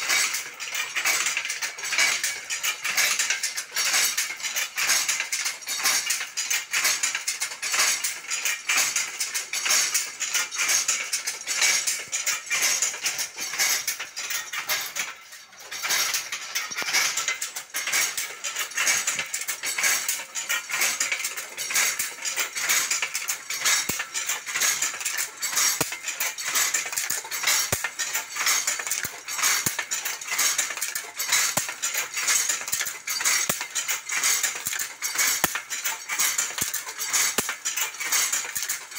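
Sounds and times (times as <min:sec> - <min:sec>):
handlooms clattering: 0:00.0 - 0:38.9.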